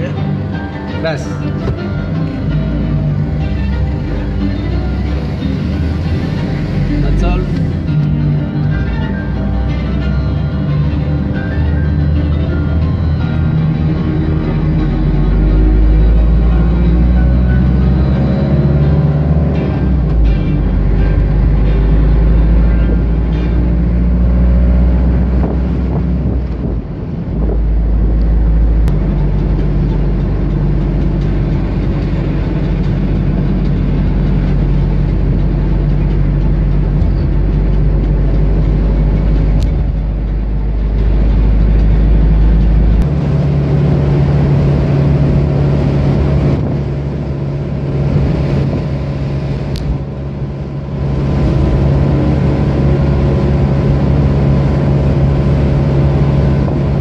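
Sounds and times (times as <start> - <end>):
car engine and tyre noise: 0.0 - 57.0.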